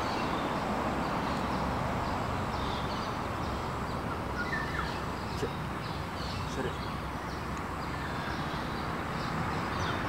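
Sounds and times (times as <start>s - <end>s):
outdoor background noise: 0.0s - 10.0s
small birds chirping: 0.0s - 10.0s.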